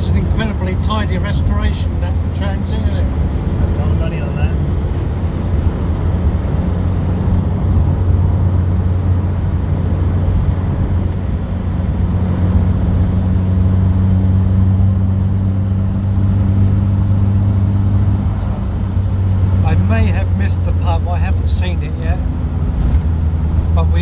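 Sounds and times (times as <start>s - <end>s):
car engine cruising: 0.0s - 24.0s
road noise: 0.0s - 24.0s.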